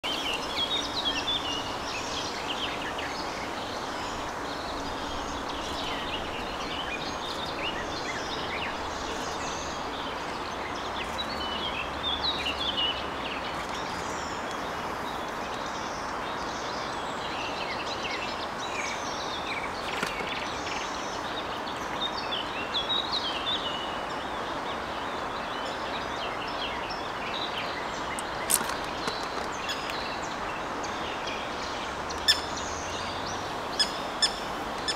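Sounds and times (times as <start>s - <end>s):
background hiss: 0.0s - 34.9s.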